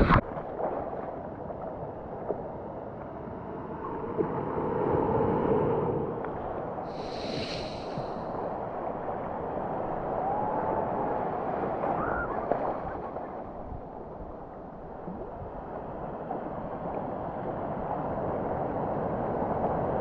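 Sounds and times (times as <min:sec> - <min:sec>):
ocean water sloshing: 0:00.0 - 0:19.9.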